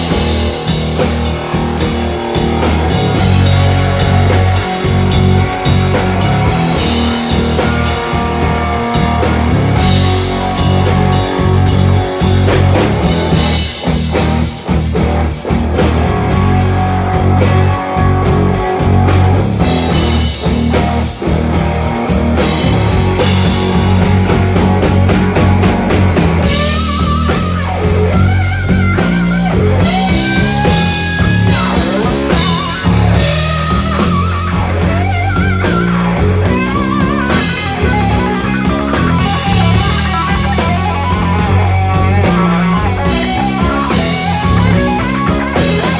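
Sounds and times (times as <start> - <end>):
lead guitar bent notes: 0.0 - 45.9
rock band playing live: 0.0 - 45.9.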